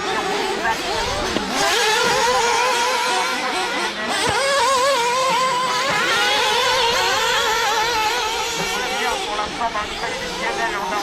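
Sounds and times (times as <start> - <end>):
rc car engines whining: 0.0 - 11.0.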